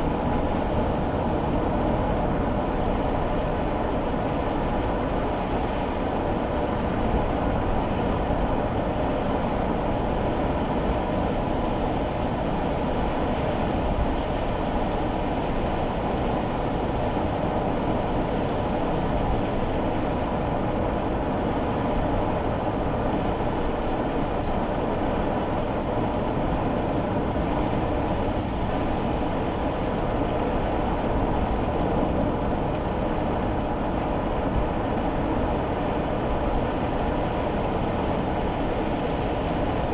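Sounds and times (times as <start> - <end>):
road noise on wet road: 0.0 - 39.9.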